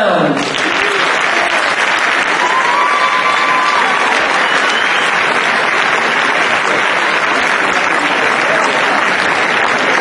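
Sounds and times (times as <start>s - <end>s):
audience applauding: 0.4s - 10.0s.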